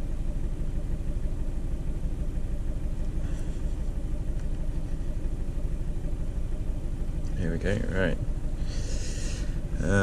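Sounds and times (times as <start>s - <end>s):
diesel engine idling lumpy: 0.0s - 10.0s.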